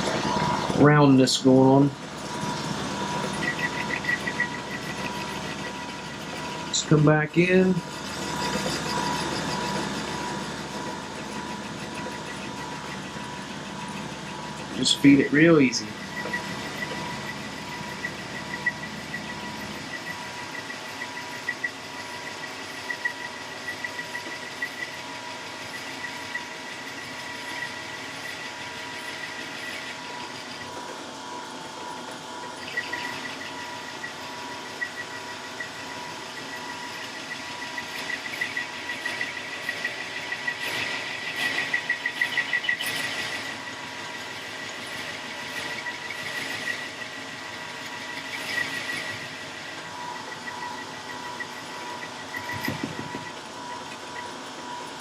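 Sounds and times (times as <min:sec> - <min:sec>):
cutting tool cutting metal: 0:00.0 - 0:31.0, 0:32.0 - 0:55.0
lathe running with a whine: 0:00.0 - 0:55.0.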